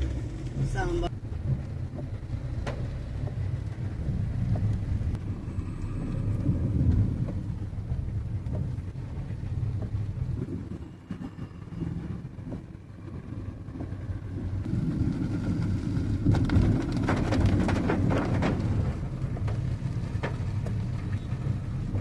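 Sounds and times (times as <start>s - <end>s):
vehicle road noise in rain: 0.0s - 22.0s.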